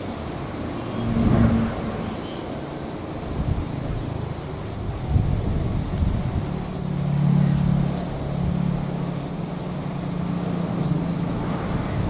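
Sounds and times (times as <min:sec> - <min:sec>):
distant diesel locomotive drone: 0:00.0 - 0:12.0.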